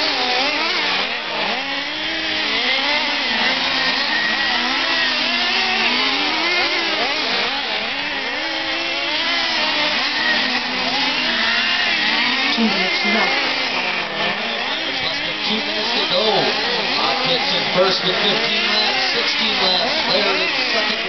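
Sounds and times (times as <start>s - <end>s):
rc truck engines buzzing: 0.0s - 21.0s.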